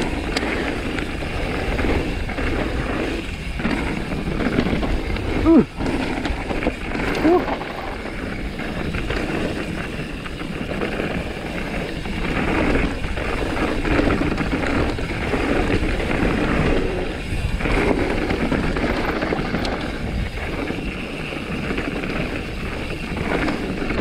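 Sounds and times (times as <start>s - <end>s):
bike rattling over bumps: 0.0s - 24.0s
bike tyres running over stones: 0.0s - 24.0s.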